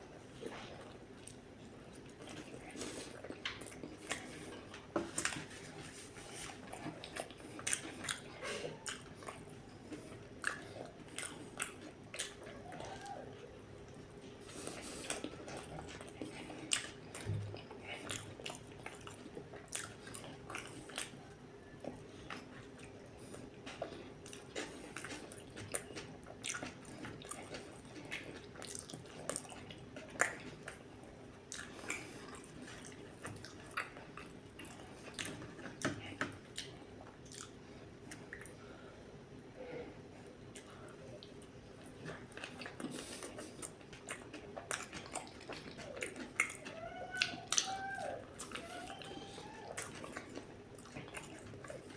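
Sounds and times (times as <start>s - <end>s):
faint steady hum: 0.0s - 51.9s
wet chewing mouth clicks: 0.4s - 13.2s, 13.9s - 38.6s, 40.5s - 51.9s.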